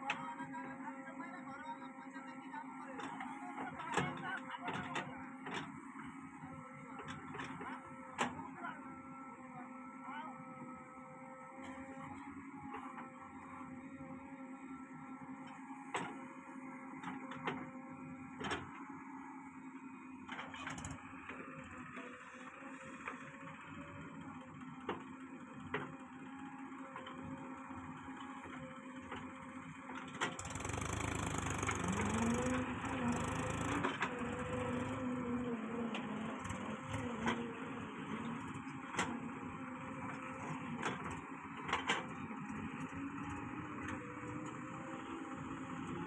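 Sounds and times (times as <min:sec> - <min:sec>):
diesel engines running: 0:00.0 - 0:46.0.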